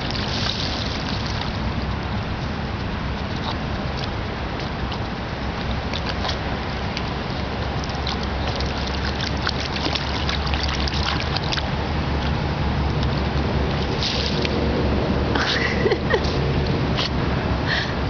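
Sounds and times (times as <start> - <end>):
dogs splashing in water: 0.0 - 17.4
steady low rumble: 0.0 - 18.0.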